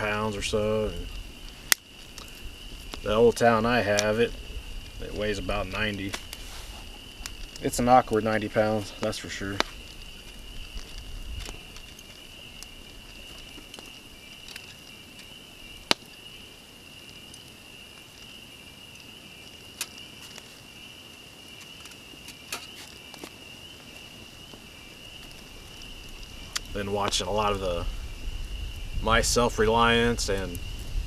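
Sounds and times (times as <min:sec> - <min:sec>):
tree frogs trilling: 0:00.0 - 0:31.0.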